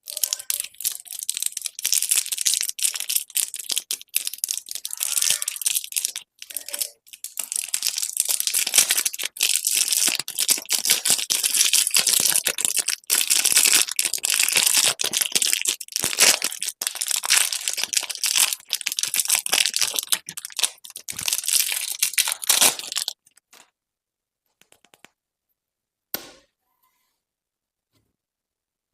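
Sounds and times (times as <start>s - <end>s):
candy wrappers crinkling: 0.0s - 23.7s.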